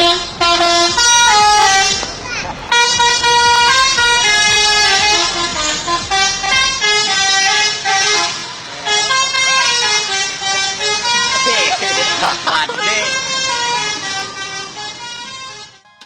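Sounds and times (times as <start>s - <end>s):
musical bus air horn melody: 0.0s - 16.0s.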